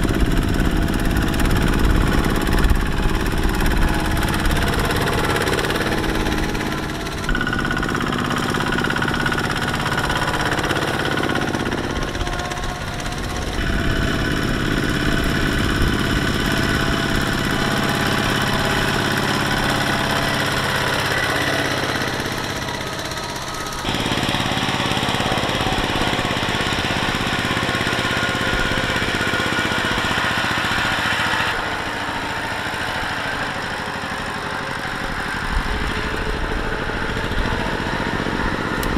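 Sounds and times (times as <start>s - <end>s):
diesel tractor engines under load: 0.0s - 38.9s.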